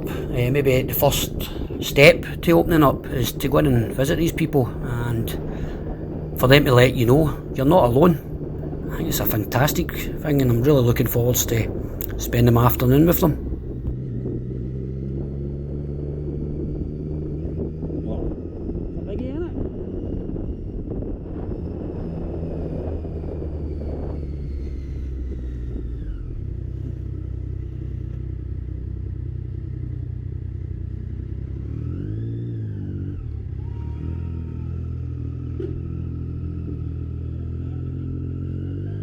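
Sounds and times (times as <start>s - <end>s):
motorcycle engine running: 0.0s - 9.0s, 13.0s - 39.0s.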